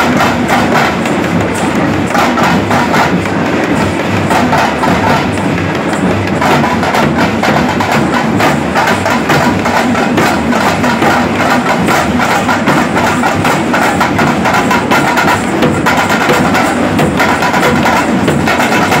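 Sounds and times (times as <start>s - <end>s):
barrel drums beaten fast: 0.0s - 19.0s
hand drum: 0.0s - 19.0s.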